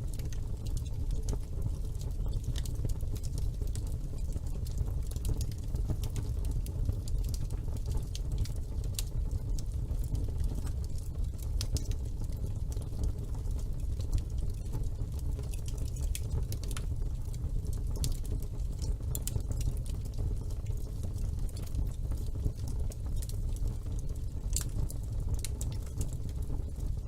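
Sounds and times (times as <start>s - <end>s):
fire crackling and popping: 0.0s - 27.0s
fireplace fire rumbling: 0.0s - 27.0s.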